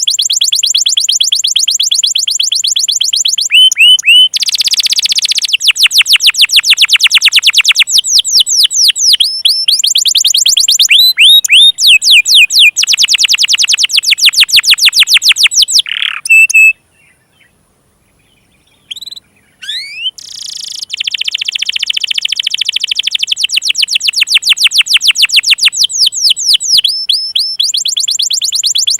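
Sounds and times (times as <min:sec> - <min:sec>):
canary singing trills: 0:00.0 - 0:28.9.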